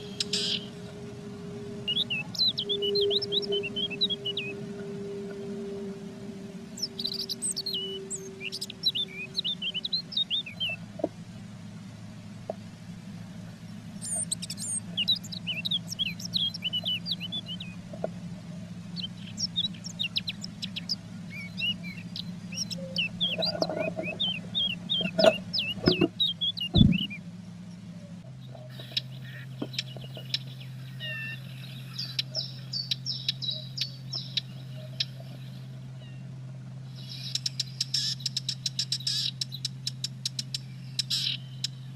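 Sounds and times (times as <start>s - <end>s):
songbirds chirping: 0.0s - 41.9s
steady low hum: 0.0s - 41.9s.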